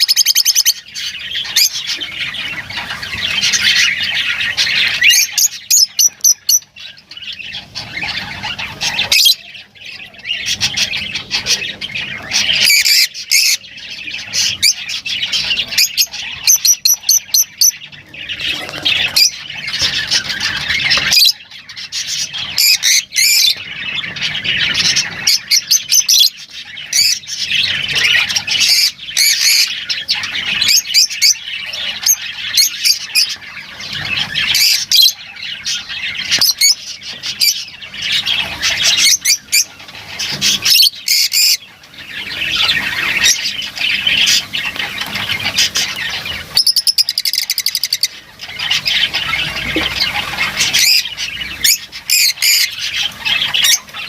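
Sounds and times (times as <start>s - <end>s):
lovebirds chattering and squawking: 0.0s - 54.0s.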